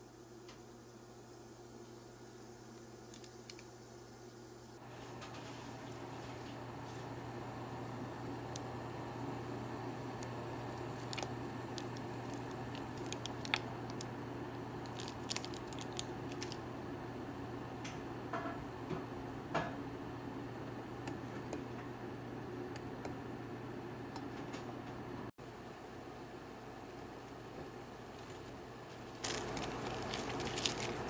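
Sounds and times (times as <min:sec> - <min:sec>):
low hum of room noise: 0:00.0 - 0:31.0.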